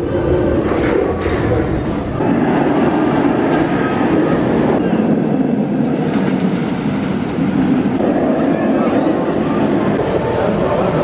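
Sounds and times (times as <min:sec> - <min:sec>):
roller coaster rolling rumble: 0:00.0 - 0:11.0.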